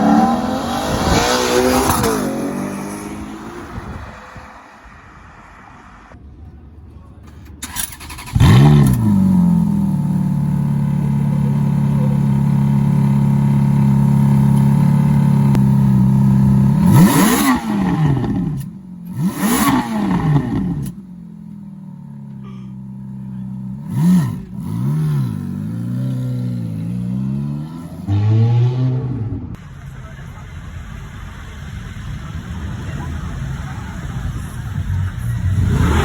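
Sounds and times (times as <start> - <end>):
car engine revving: 0.0 - 6.2, 7.6 - 36.0.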